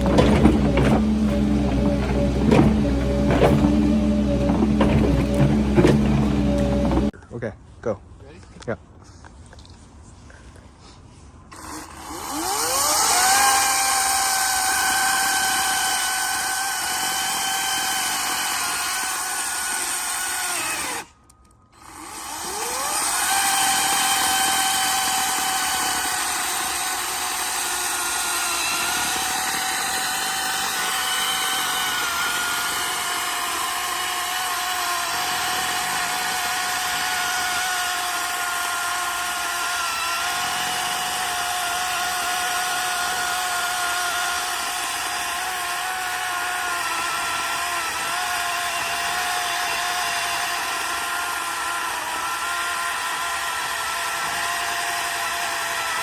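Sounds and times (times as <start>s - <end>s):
power tool motor whining: 0.0s - 7.1s, 11.5s - 56.0s.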